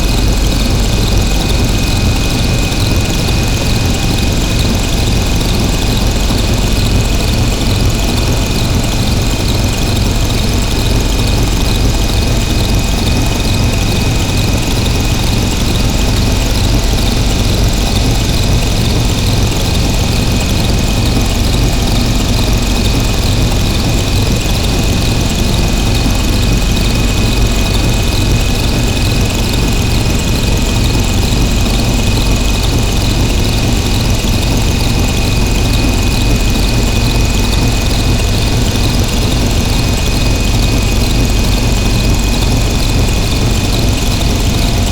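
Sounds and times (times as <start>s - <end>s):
steady high whine: 0.0s - 44.9s.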